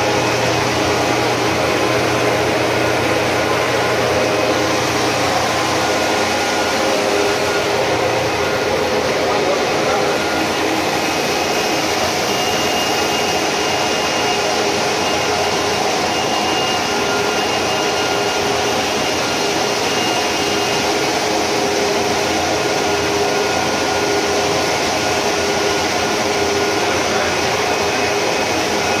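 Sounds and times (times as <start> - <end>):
carpet washing machine running: 0.0 - 29.0.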